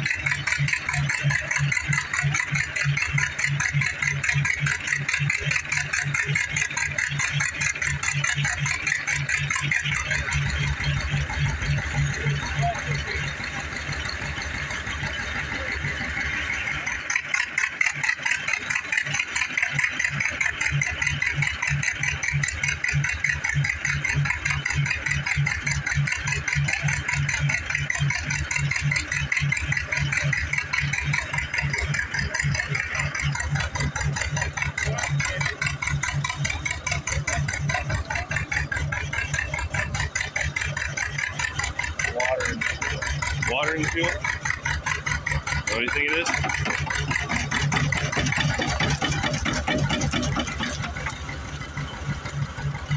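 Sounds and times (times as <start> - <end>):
mechanical rattle: 0.0 - 52.9
stationary engine chugging: 0.0 - 52.9
tractor engine running: 0.0 - 52.9.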